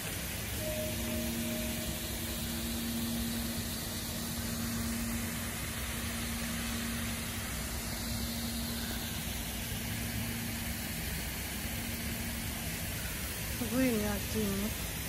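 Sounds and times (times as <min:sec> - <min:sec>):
low even hum: 0:00.0 - 0:15.0
misting system spraying hiss: 0:00.0 - 0:15.0.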